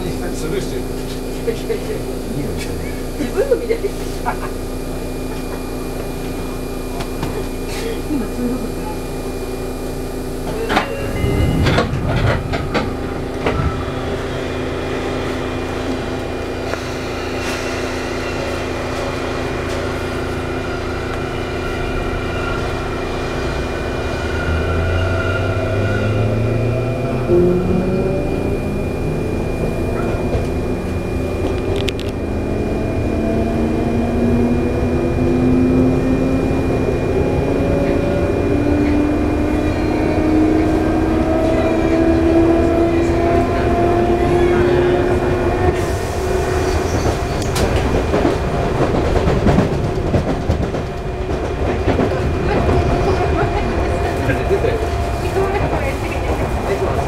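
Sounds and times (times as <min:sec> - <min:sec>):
electric train motor whine rising: 0:01.7 - 0:48.0.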